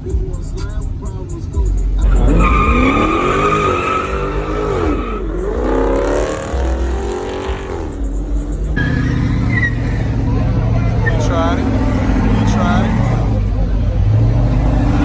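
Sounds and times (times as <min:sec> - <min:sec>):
car engine revving: 0:00.0 - 0:15.0
tyres squealing: 0:00.0 - 0:15.0.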